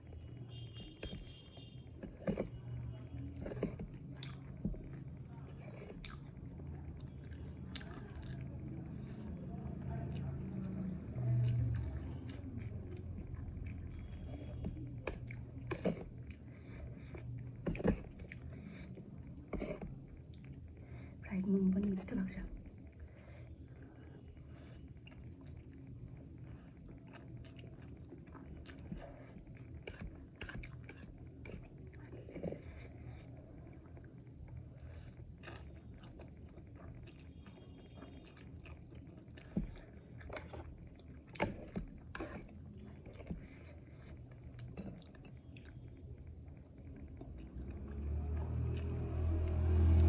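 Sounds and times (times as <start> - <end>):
person chewing food: 0.0 - 21.2, 22.4 - 50.0
low steady hum: 0.0 - 50.0.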